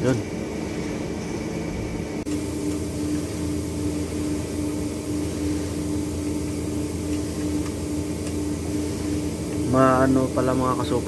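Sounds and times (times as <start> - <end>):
machine hum with mid-pitched tone: 0.0 - 11.0.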